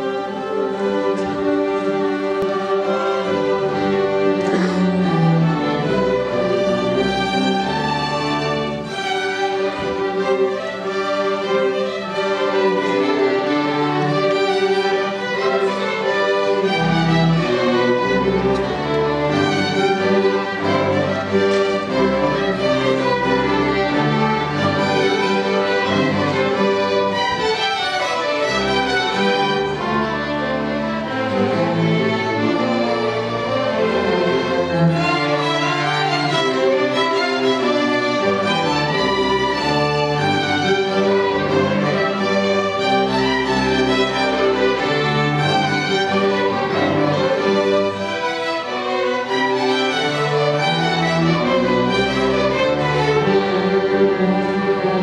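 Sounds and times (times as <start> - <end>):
string orchestra playing: 0.0 - 55.0.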